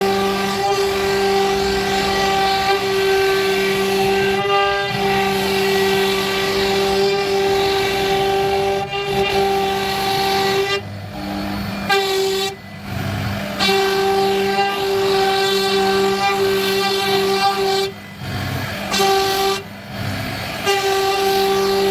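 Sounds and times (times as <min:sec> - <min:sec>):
router spindle high whine: 0:00.0 - 0:21.9.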